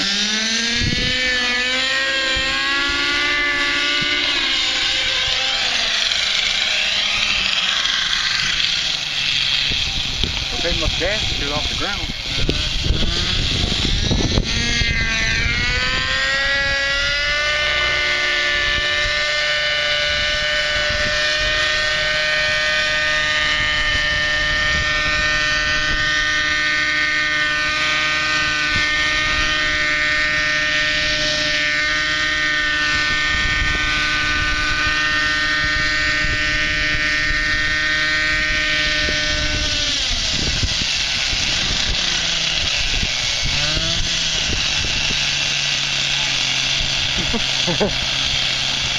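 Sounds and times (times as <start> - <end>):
model helicopter engine and rotor: 0.0 - 48.9.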